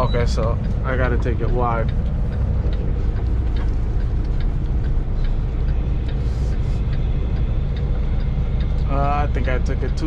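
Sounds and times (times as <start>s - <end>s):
road noise: 0.0s - 10.0s
truck engine rumbling: 0.0s - 10.0s.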